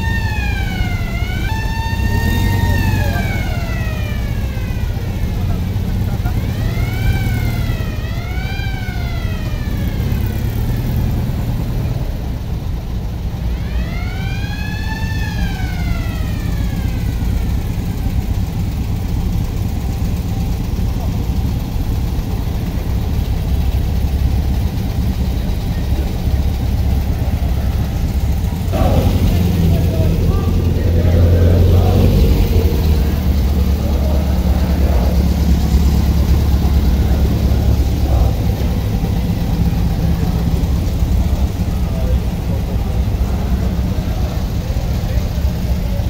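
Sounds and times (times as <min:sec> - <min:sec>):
car engines rumbling past: 0:00.0 - 0:46.0
siren wailing: 0:00.0 - 0:46.0.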